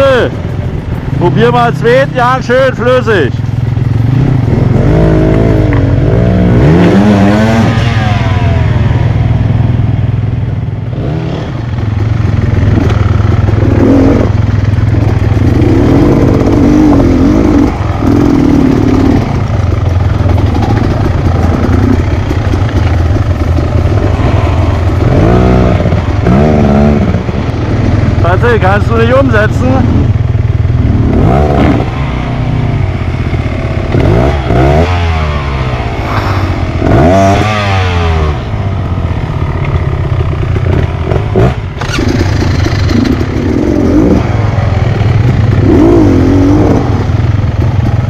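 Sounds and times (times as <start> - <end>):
dirt bike engine revving: 3.2 - 9.6, 10.9 - 48.0.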